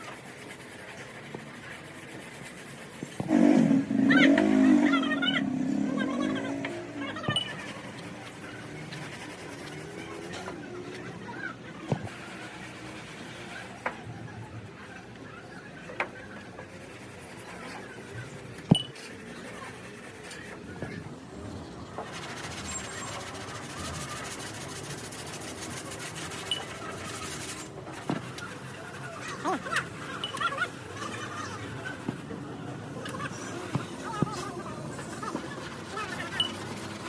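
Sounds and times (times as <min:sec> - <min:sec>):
workshop background noise: 0:00.0 - 0:37.0.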